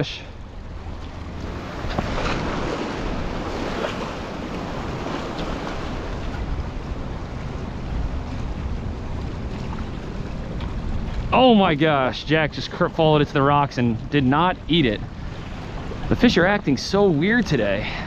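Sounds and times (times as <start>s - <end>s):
wind buffeting microphone: 0.4s - 16.7s
surf washing against rocks: 0.8s - 18.0s.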